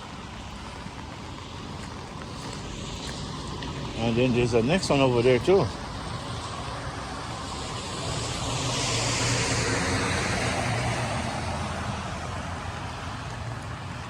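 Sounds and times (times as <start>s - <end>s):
car passing on wet street: 0.0s - 14.0s.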